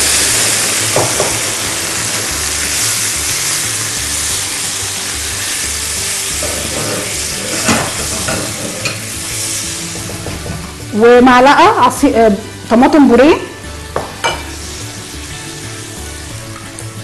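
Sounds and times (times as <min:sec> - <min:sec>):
sauce sizzling in a frying pan: 0:00.0 - 0:17.0.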